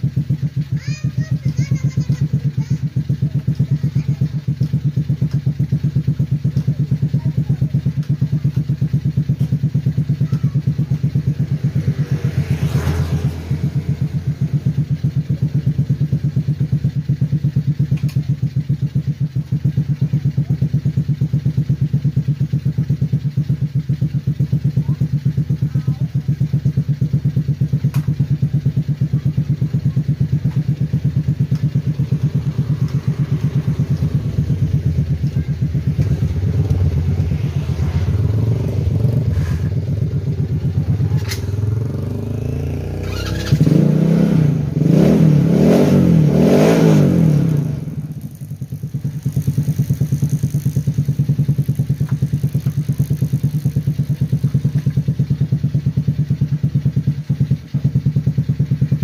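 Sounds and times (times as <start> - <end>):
go-kart engine idling: 0.0 - 59.0.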